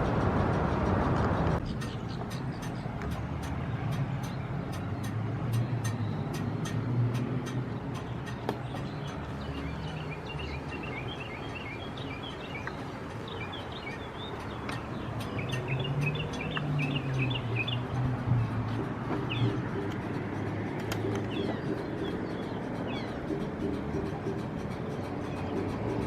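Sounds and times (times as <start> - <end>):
small birds chirping: 1.6 - 26.0.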